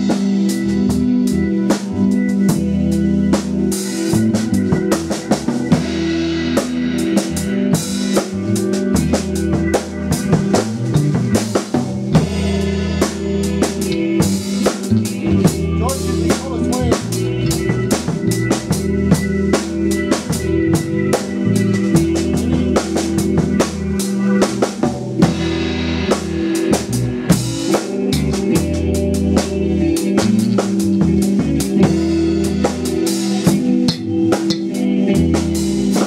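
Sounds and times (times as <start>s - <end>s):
drum kit rimshots: 0.0s - 36.0s
live band instrumental: 0.0s - 36.0s.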